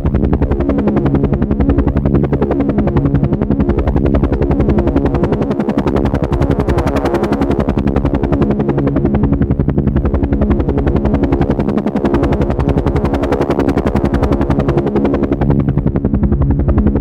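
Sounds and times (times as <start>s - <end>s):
helicopter engine hum: 0.0s - 17.0s
helicopter rotor blades chopping: 0.0s - 17.0s.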